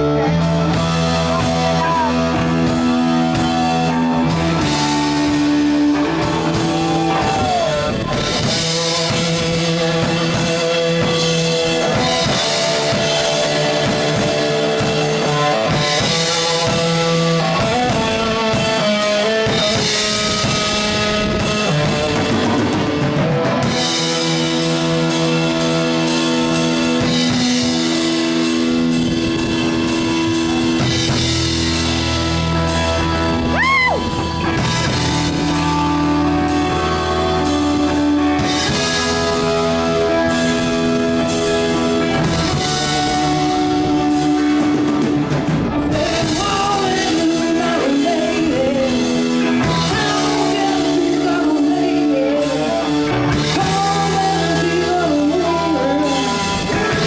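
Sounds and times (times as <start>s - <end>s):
lead guitar bending notes: 0.0s - 57.0s
live rock band playing: 0.0s - 57.0s.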